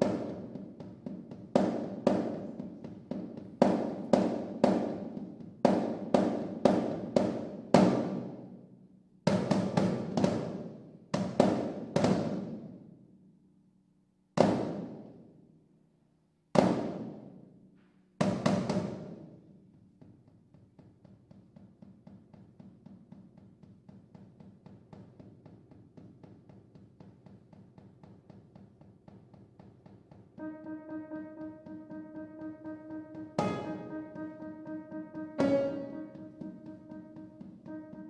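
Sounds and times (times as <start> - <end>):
piano and percussion chamber music: 0.0 - 8.6, 9.3 - 12.9, 18.2 - 38.0.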